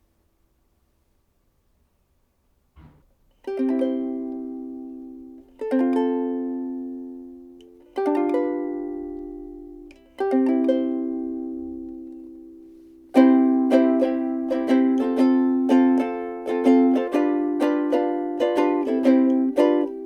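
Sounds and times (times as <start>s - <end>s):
ukulele chords strummed: 3.4s - 20.0s.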